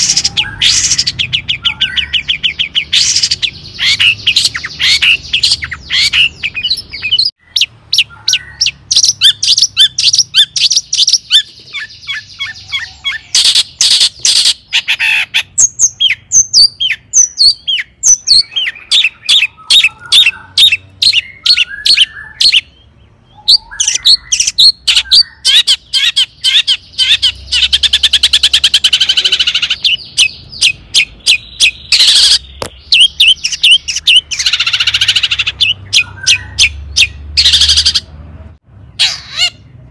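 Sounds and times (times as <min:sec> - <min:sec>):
shrike singing: 0:00.0 - 0:38.1.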